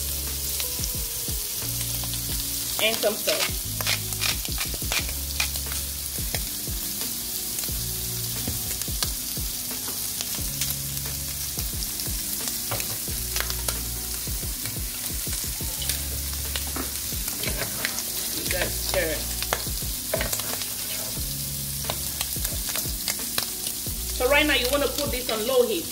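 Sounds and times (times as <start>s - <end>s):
shrimp sizzling in oil: 0.0s - 25.9s.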